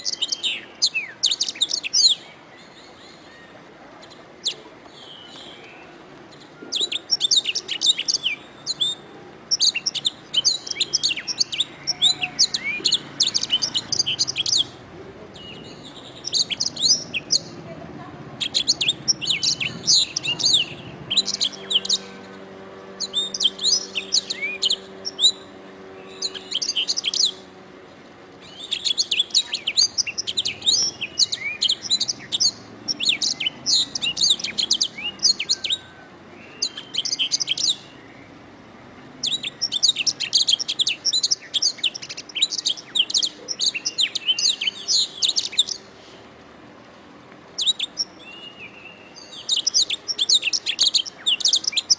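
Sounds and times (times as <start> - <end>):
canary singing trills: 0.0 - 46.1, 47.6 - 51.9.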